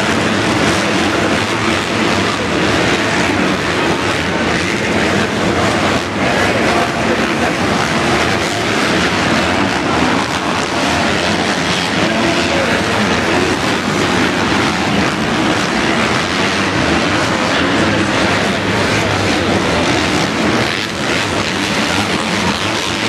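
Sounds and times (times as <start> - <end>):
motorcycle engines racing: 0.0 - 23.0.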